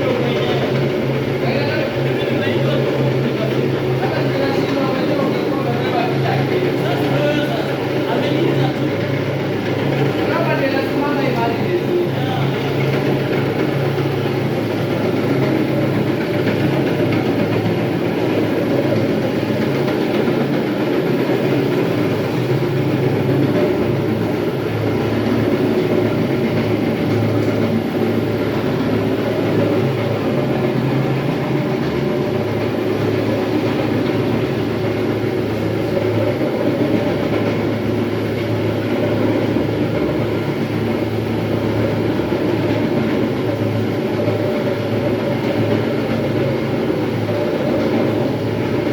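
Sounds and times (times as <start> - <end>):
floor grinder grinding: 0.0 - 48.9
low motor hum: 0.0 - 48.9.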